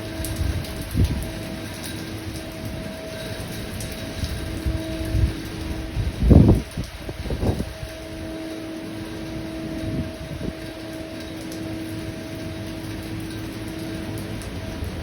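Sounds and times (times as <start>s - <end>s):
steady hum: 0.0s - 15.0s
steady rain hiss: 0.0s - 15.0s.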